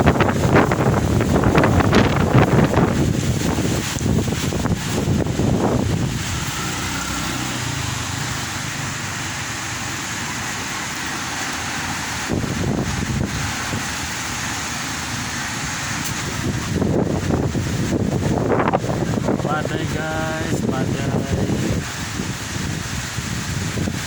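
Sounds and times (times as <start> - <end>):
strong wind rushing: 0.0 - 24.0
wind gusts buffeting microphone: 0.0 - 24.0.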